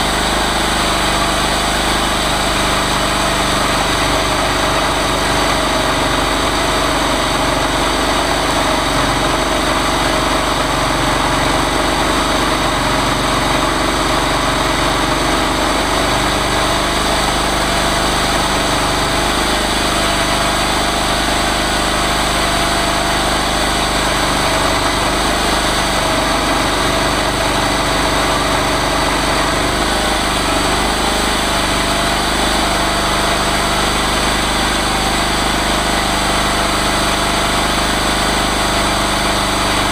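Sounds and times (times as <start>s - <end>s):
chainsaw engine running steadily: 0.0s - 39.9s.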